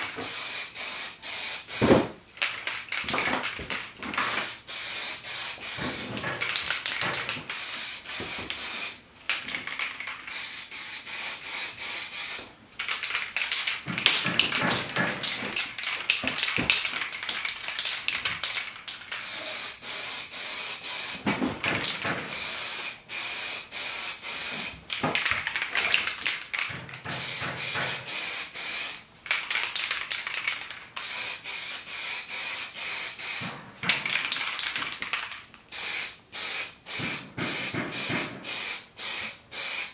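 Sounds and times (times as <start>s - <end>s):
spray paint can hissing: 0.2s - 3.1s, 4.2s - 9.0s, 9.6s - 21.2s, 21.9s - 24.8s, 27.1s - 39.9s.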